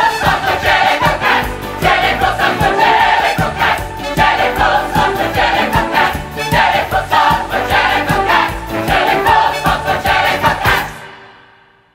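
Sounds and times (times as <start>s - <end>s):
steady drum beat: 0.0s - 11.0s
chorus singing show tune: 0.0s - 11.6s.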